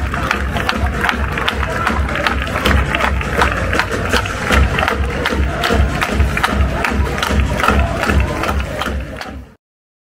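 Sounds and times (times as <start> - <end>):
steady low drum beat: 0.0 - 9.5
stadium crowd noise: 0.0 - 9.6.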